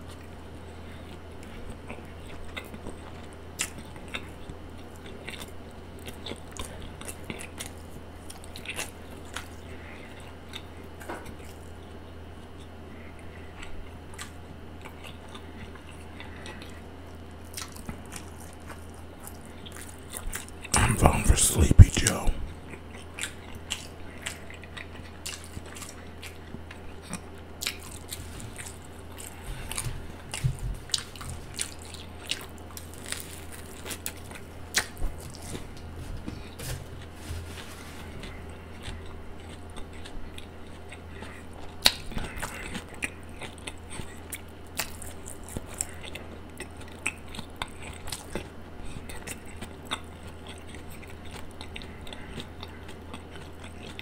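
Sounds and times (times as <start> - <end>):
chewing sandwich: 0.0 - 54.0
steady low hum: 0.0 - 54.0.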